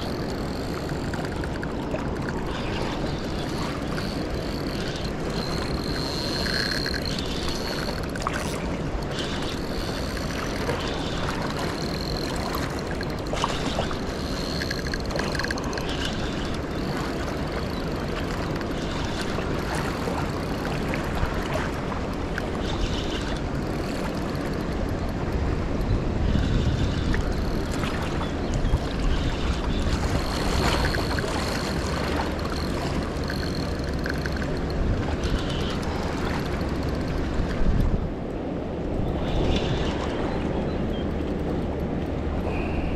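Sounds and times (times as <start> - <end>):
river flowing: 0.0 - 25.6, 26.2 - 38.0
wind buffeting microphone: 0.0 - 42.9.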